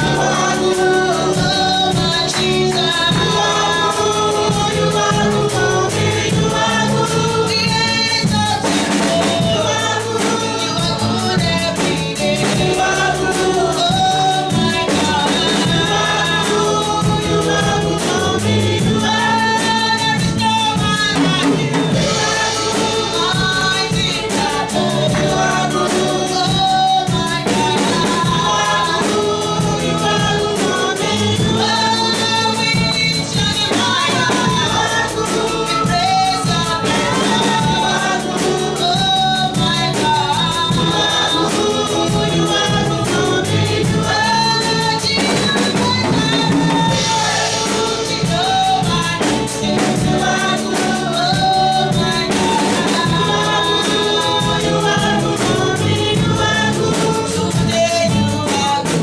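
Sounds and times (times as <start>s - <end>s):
band with drums: 0.0s - 59.0s
gospel choir singing: 0.0s - 59.0s.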